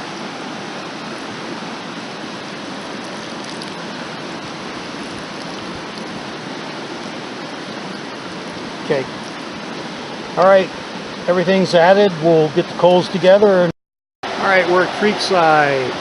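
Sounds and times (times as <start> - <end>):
creek flowing water: 0.0 - 16.0.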